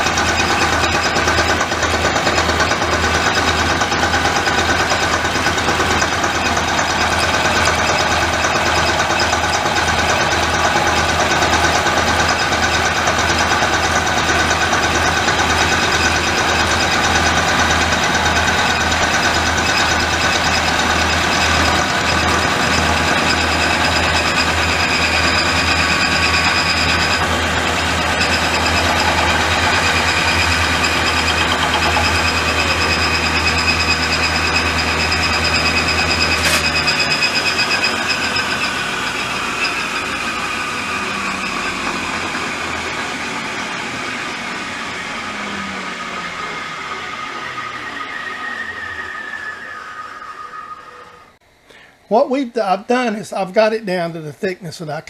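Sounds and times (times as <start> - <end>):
milling machine cutting steel: 0.0 - 51.4.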